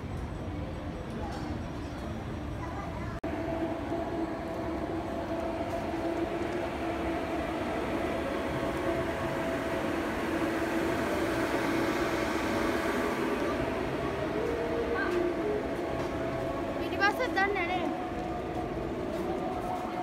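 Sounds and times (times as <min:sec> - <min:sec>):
mechanical drone: 0:03.2 - 0:20.0.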